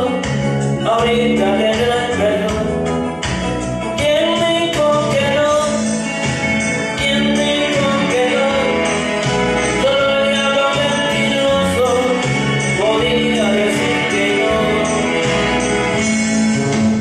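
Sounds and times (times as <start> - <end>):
man singing into a microphone: 0.0 - 3.2, 3.8 - 6.1, 6.9 - 15.7
recorded instrumental backing track: 0.0 - 17.0.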